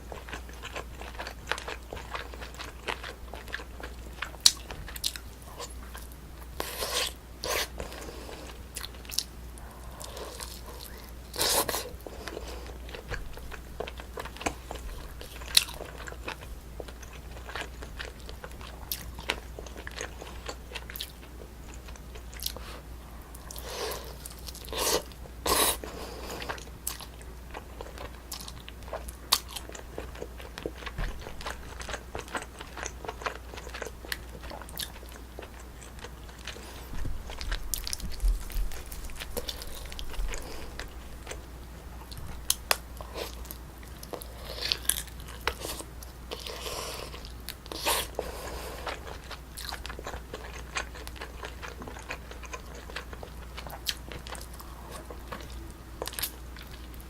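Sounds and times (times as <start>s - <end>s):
close chewing and biting: 0.0s - 41.4s, 42.0s - 57.0s.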